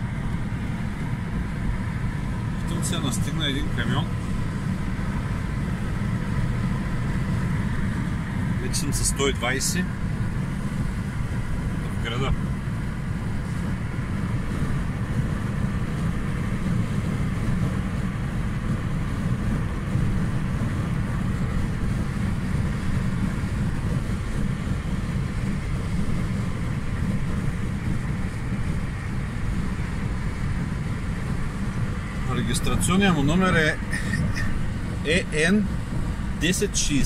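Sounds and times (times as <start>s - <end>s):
car interior engine and road rumble: 0.0s - 37.0s.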